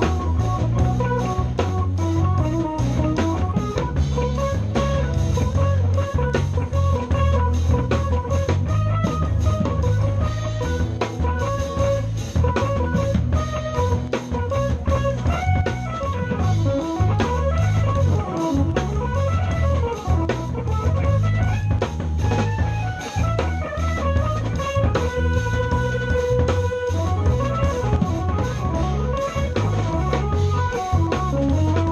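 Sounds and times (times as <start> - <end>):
drum kit: 0.0 - 31.9
electric bass: 0.0 - 31.9
electric guitar melodic runs: 0.0 - 31.9.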